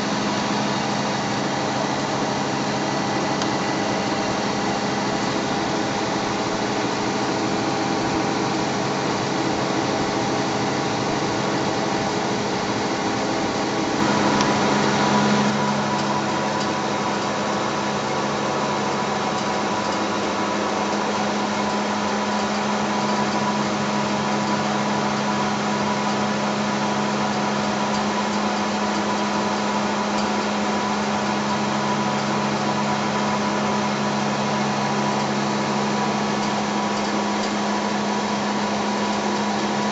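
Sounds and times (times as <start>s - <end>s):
generator rotor humming and whining: 0.0s - 39.9s.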